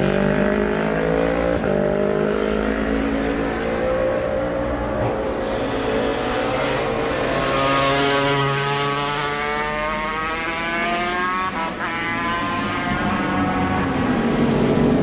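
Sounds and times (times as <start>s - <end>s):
motorcycle accelerating: 0.0s - 15.0s.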